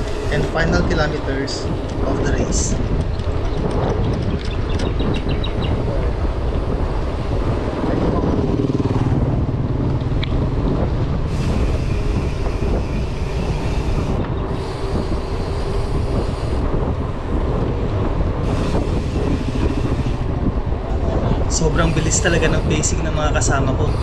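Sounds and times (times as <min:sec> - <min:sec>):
bike tyre noise on concrete: 0:00.0 - 0:24.0
wind buffeting microphone: 0:00.0 - 0:24.0.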